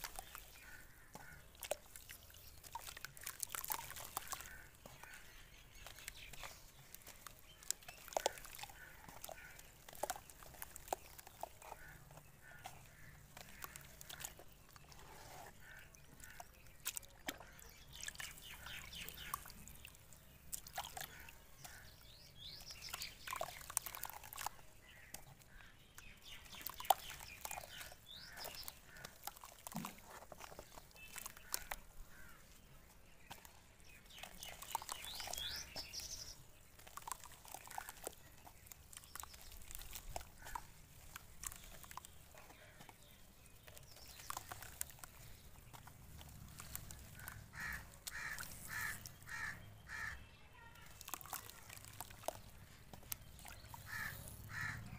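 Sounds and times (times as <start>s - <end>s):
small water splashes and drips: 0.0s - 54.9s
soft crumbling of wet dirt: 0.0s - 54.9s.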